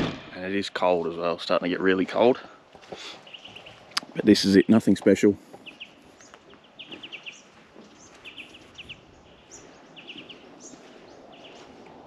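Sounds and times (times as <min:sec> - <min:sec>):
small birds chirping faintly: 0:00.8 - 0:12.0.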